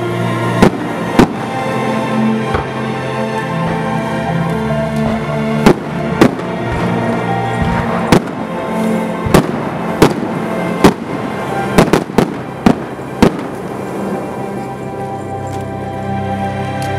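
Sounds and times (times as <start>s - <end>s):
music playing: 0.0s - 16.9s.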